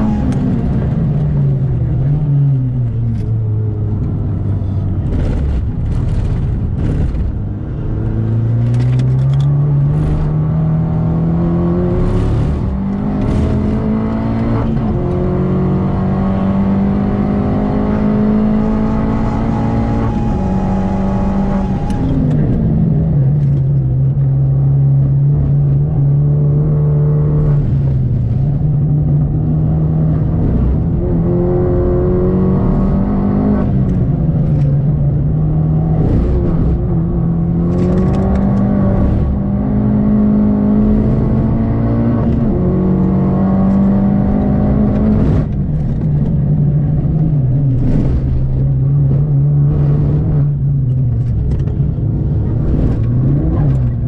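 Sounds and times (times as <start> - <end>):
car engine revving: 0.0 - 54.0
tyre and road noise: 0.0 - 54.0.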